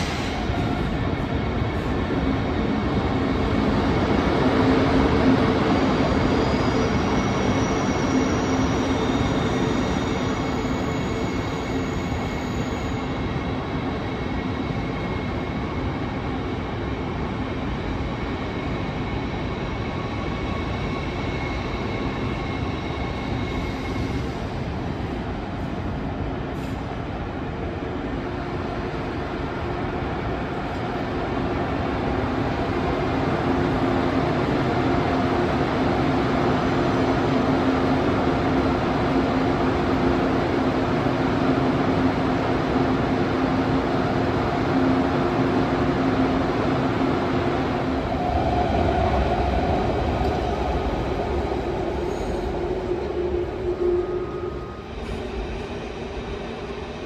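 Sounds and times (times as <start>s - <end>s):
electric train hum: 0.0s - 57.0s.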